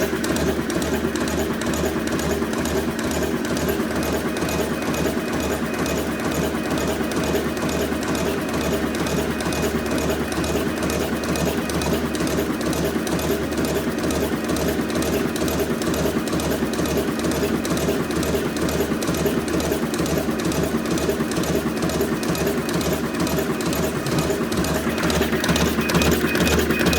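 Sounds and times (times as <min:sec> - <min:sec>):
machine clattering: 0:00.0 - 0:26.9.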